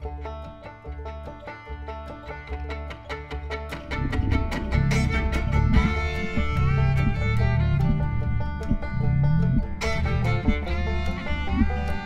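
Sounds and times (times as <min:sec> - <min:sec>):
fast-picked plucked strings: 0:00.0 - 0:12.0
pulsing bass: 0:00.0 - 0:12.0.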